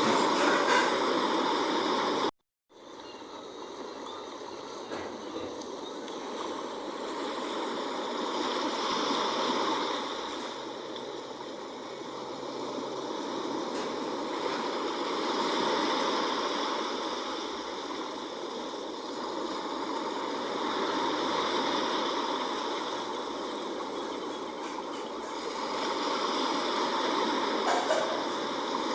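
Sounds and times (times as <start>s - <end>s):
sea waves washing in: 0.0s - 28.9s.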